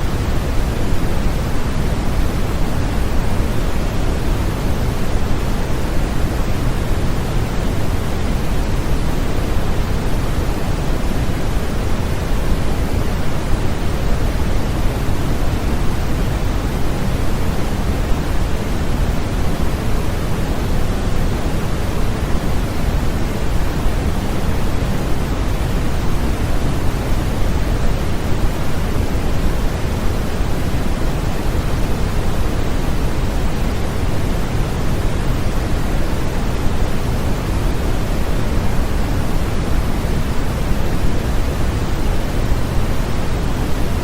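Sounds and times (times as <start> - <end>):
steady rushing white noise: 0.0 - 44.0.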